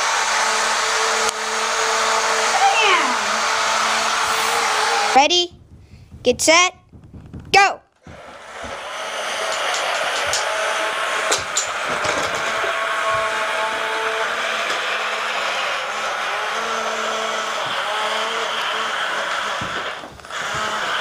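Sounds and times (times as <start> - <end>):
toy electric motor whirring: 0.0 - 5.2, 8.0 - 21.0.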